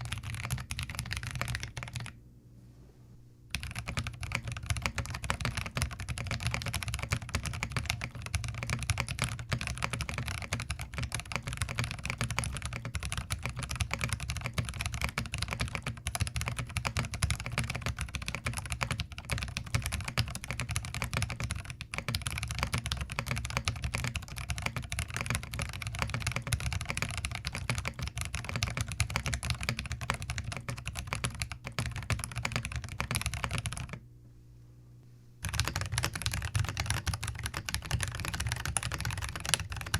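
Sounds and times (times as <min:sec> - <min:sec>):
fast typing on mechanical keyboard: 0:00.0 - 0:02.1, 0:03.5 - 0:34.0, 0:35.4 - 0:39.9.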